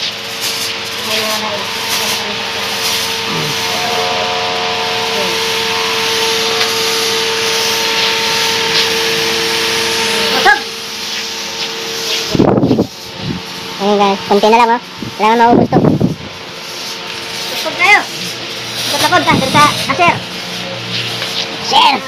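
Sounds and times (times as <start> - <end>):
constant hum: 0.0 - 22.0
fogging machine hissing: 0.0 - 22.0.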